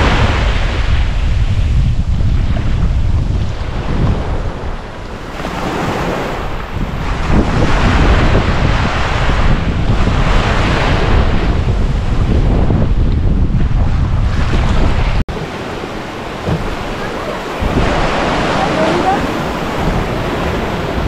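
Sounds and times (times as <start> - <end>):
ocean surf breaking: 0.0 - 21.0
wind on microphone: 0.0 - 21.0.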